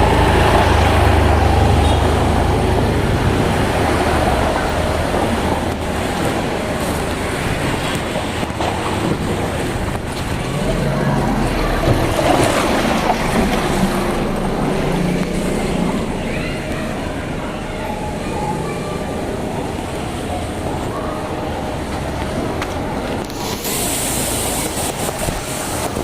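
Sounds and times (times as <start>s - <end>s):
floodwater rushing and splashing: 0.0s - 26.0s
traffic noise: 0.0s - 26.0s.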